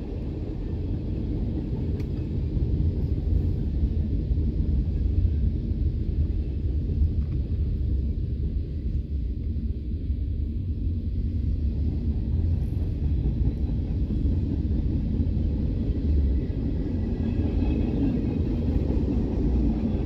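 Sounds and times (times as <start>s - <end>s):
freight train cars rolling past: 0.0s - 20.0s.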